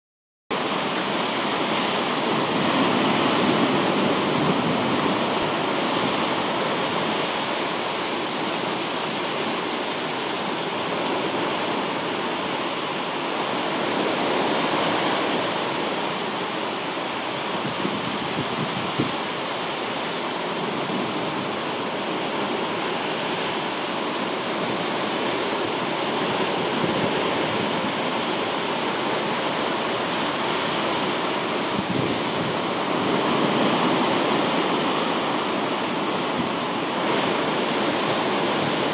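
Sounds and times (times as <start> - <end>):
surf breaking against rocks: 0.5 - 12.7, 13.4 - 38.9.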